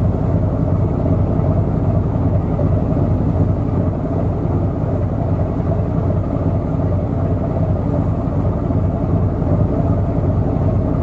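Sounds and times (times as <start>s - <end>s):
boat diesel engine droning: 0.0s - 11.0s.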